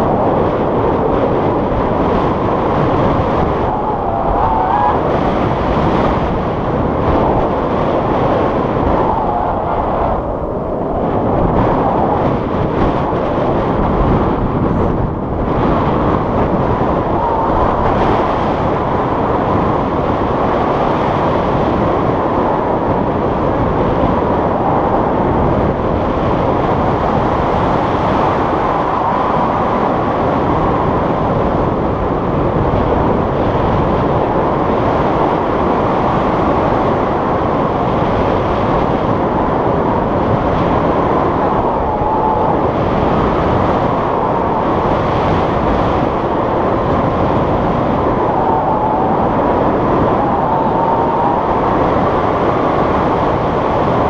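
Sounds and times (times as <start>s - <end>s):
wind buffeting camera microphone: 0.0s - 54.0s.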